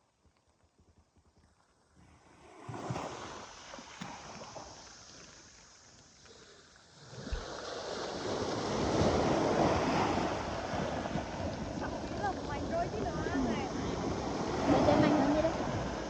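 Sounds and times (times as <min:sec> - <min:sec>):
sea waves washing in: 0:02.2 - 0:16.0.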